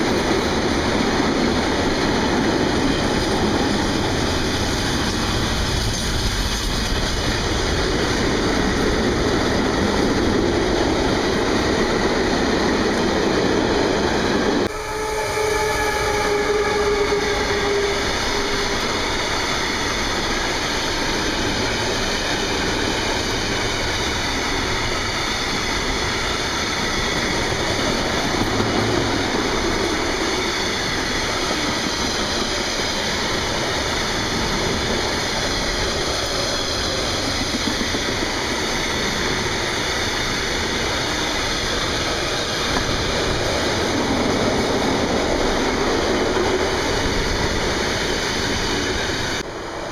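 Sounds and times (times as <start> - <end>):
freight train rumbling on rails: 0.0 - 49.9.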